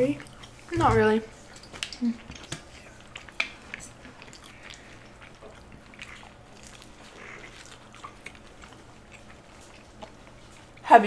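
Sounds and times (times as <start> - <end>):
chewing with wet mouth smacks: 0.0 - 10.9.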